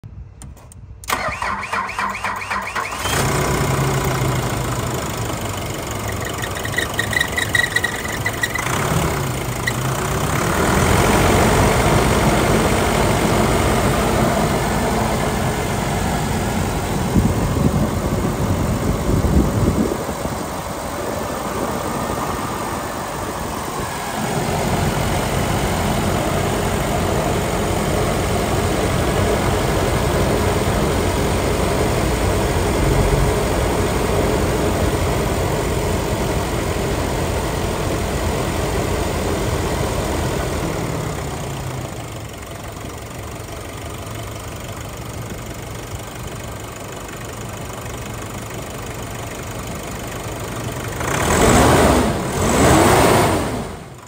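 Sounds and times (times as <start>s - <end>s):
diesel engine starting and idling: 0.0s - 54.0s.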